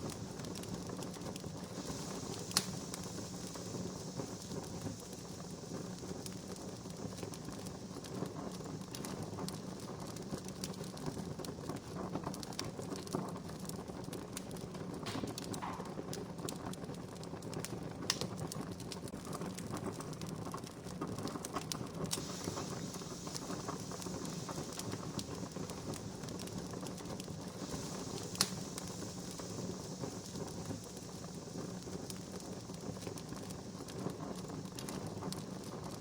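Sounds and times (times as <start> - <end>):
campfire crackling: 0.0 - 36.0
fire pops: 0.0 - 36.0.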